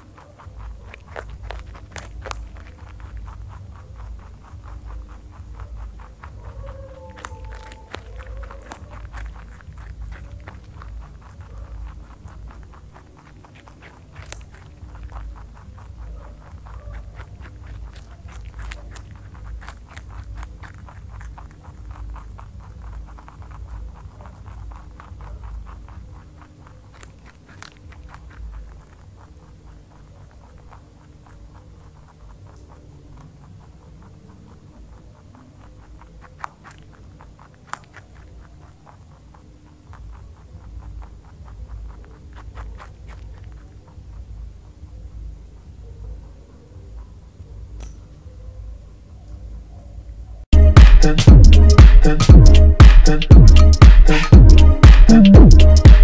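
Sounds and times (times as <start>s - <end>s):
low steady hum: 0.0s - 56.0s
rabbit chewing crunchy vegetables: 0.0s - 56.0s.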